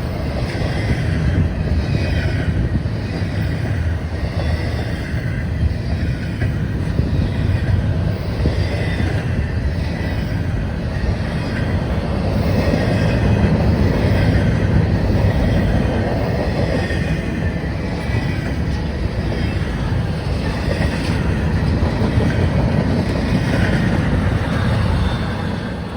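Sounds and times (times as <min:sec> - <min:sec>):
train wheels on rails: 0:00.0 - 0:25.9.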